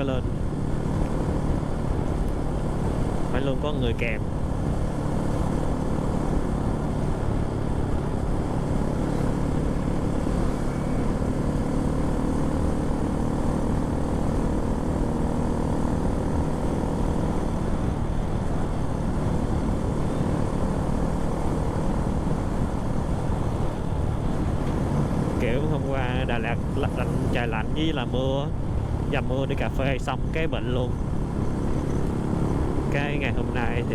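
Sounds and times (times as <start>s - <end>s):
motorbike engine drone: 0.0s - 33.9s.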